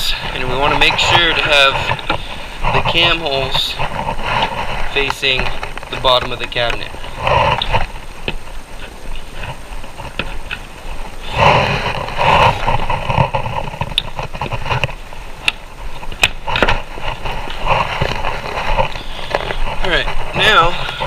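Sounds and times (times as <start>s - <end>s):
panels scraping and rustling: 0.0s - 15.2s, 15.8s - 21.0s.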